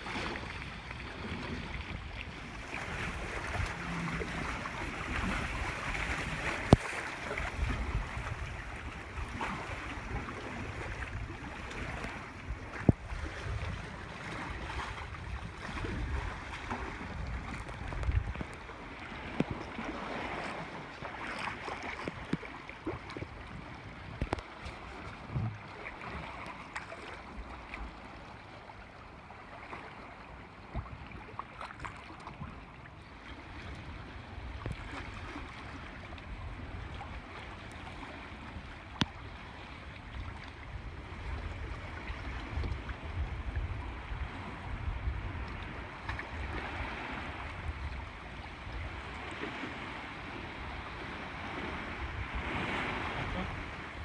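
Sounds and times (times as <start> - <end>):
wind rumbling on microphone: 0.0 - 29.1, 32.0 - 54.0
water splashing against hull: 0.0 - 54.0.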